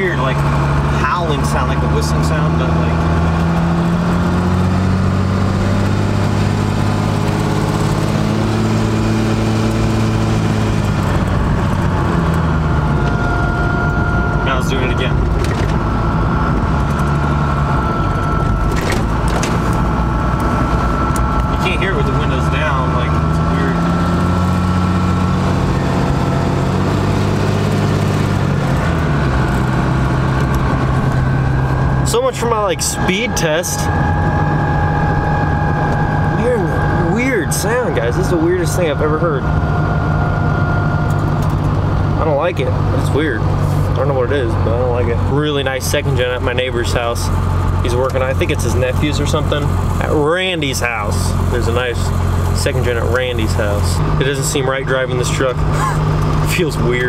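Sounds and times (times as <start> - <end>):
diesel truck engine droning: 0.0 - 57.0.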